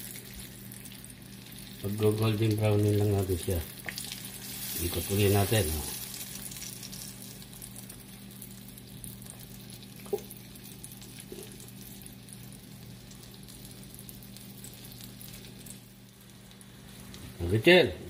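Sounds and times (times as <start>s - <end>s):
oil sizzling in a pan: 0.0s - 18.0s.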